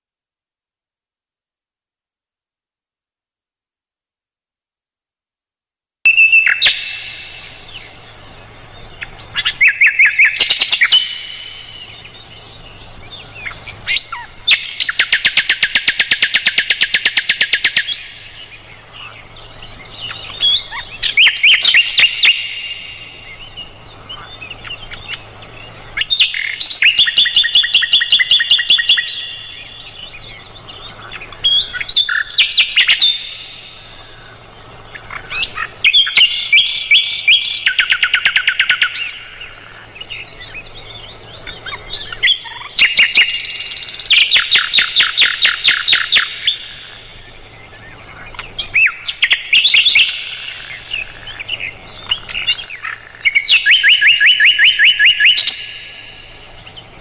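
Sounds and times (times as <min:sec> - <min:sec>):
faint low hum: 0:06.1 - 0:53.5
bird trilling song: 0:06.1 - 0:57.0.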